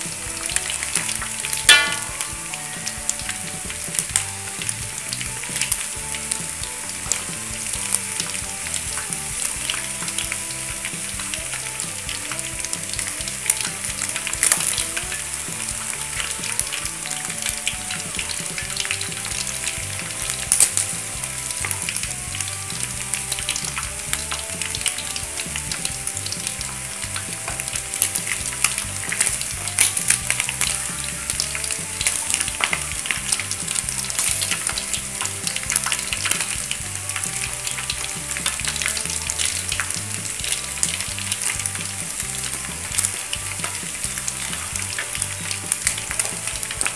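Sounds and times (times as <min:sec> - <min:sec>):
chicken deep-frying in oil: 0:00.0 - 0:46.9
oil popping: 0:00.0 - 0:46.9.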